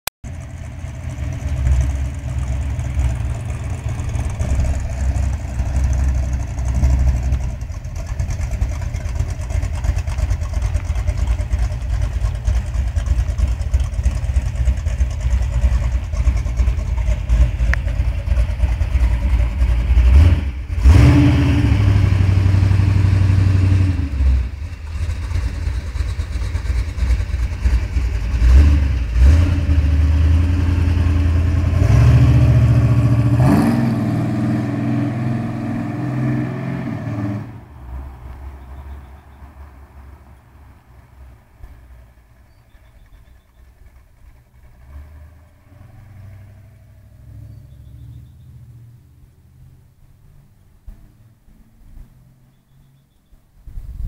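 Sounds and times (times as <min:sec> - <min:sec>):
car engine idling and revving: 0:00.2 - 0:54.0.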